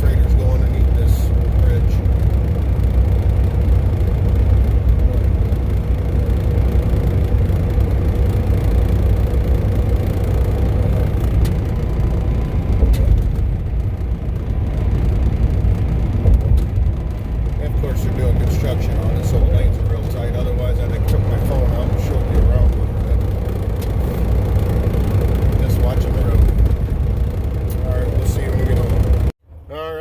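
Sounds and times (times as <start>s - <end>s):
engine and road rumble: 0.0s - 30.0s.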